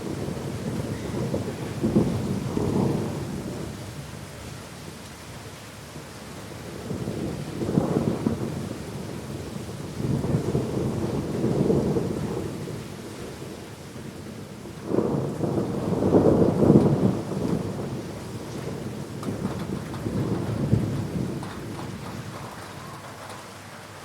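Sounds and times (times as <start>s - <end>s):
thunder rumbling: 0.0s - 4.2s, 6.6s - 24.0s
heavy rain hiss: 0.0s - 24.0s.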